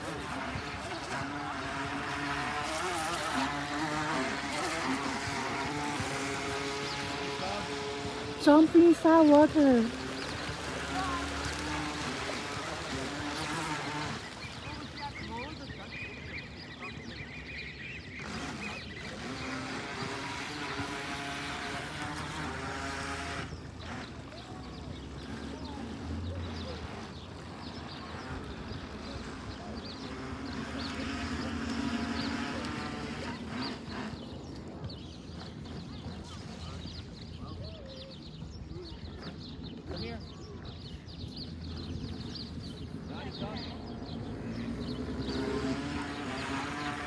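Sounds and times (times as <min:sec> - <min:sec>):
motorboat engine running: 0:00.0 - 0:47.0.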